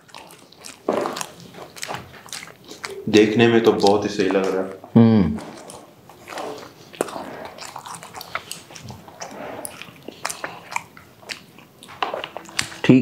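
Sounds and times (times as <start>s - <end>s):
wet mouth clicks and smacks: 0.0s - 3.1s, 5.4s - 12.8s
people chewing: 0.0s - 13.0s.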